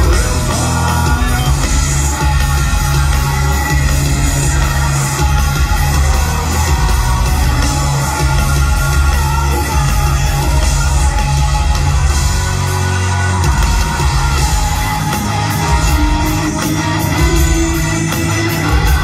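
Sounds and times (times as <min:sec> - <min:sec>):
metal band playing live: 0:00.0 - 0:19.0.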